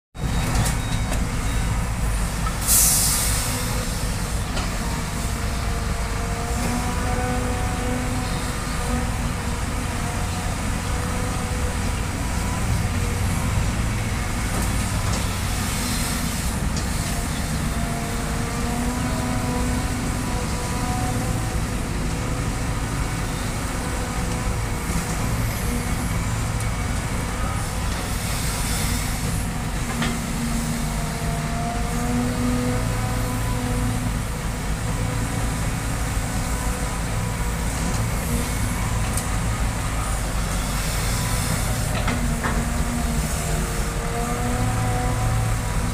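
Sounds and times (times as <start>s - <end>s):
excavator diesel engine running: 0.2s - 45.9s.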